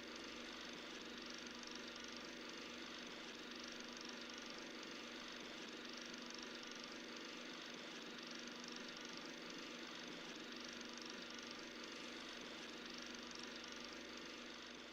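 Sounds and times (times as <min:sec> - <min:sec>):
film projector whirring and clattering: 0:00.0 - 0:14.9.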